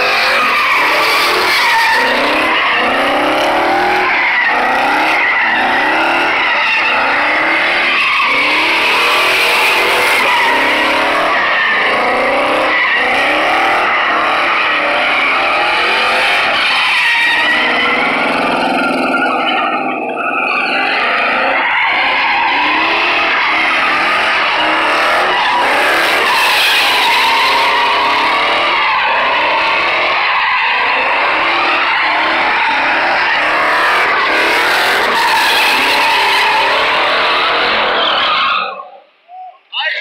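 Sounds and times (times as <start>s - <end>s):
truck engine revving: 0.0s - 38.2s
tyres screeching: 0.0s - 40.0s.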